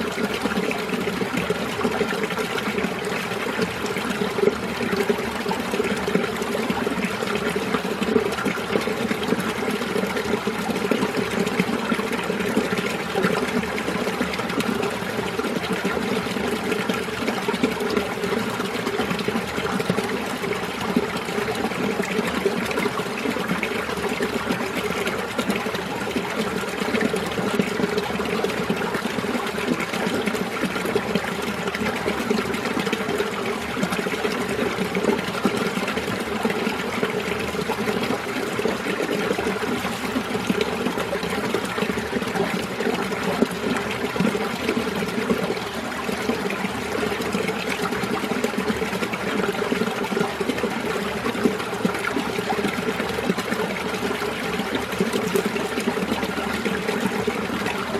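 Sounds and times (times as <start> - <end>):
stream water running over rocks: 0.0 - 57.9.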